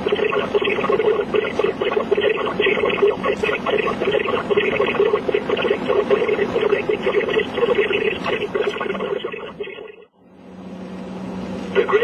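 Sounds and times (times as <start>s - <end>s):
narrow fluttering radio audio: 0.0s - 10.1s, 11.7s - 12.0s
steady low hum with hiss: 0.0s - 12.0s.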